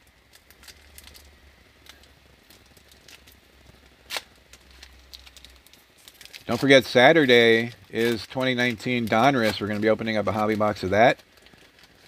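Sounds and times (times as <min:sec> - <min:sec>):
foil wrapper crinkling: 0:00.0 - 0:12.0
low steady hum: 0:00.0 - 0:12.0.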